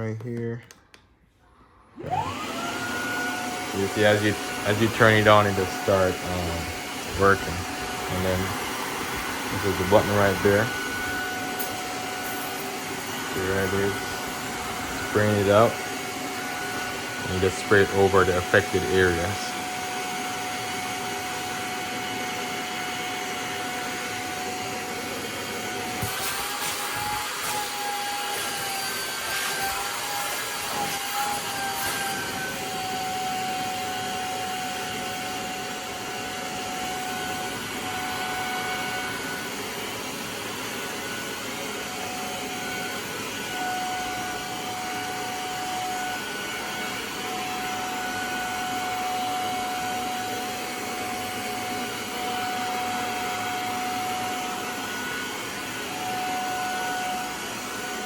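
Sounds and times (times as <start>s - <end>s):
spot cleaner suction motor whine: 1.9s - 58.0s.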